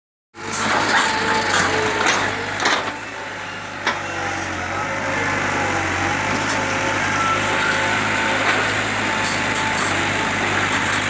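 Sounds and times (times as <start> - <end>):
backhoe engine running: 0.4 - 11.0.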